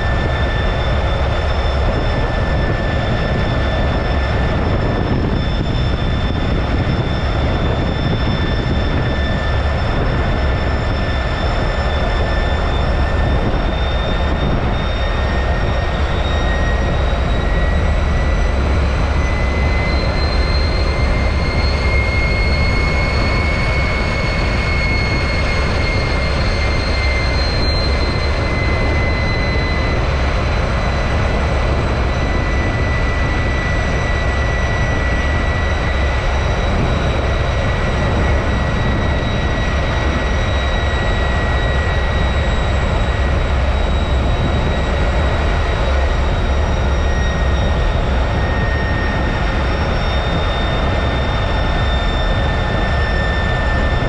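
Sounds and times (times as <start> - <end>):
jet engine roaring with whine: 0.0 - 54.0.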